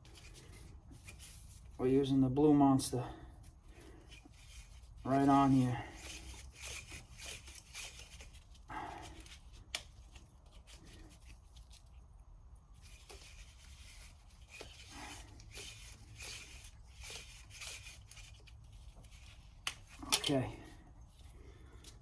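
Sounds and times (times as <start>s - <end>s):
tape rustling and crinkling: 0.0s - 2.1s, 3.1s - 22.0s.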